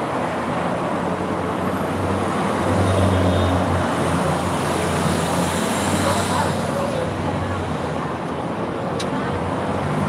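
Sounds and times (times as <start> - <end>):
urban background rumble: 0.0 - 10.0.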